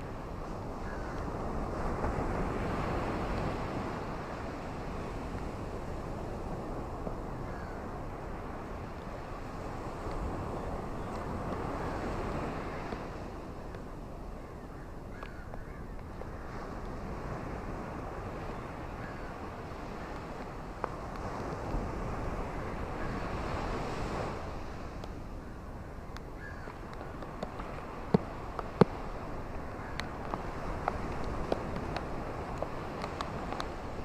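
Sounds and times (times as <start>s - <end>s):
ocean waves washing onto beach: 0.0s - 34.0s.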